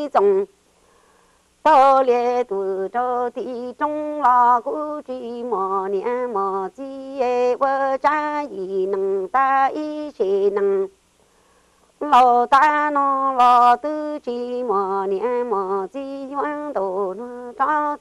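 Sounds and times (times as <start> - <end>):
woman singing unaccompanied: 0.0 - 0.6, 1.6 - 11.1, 11.9 - 18.0.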